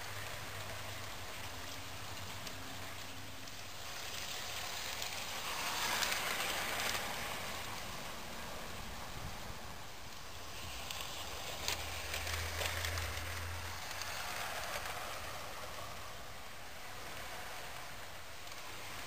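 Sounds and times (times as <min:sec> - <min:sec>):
model trolley humming: 0:00.0 - 0:19.0
outdoor hiss: 0:00.0 - 0:19.0.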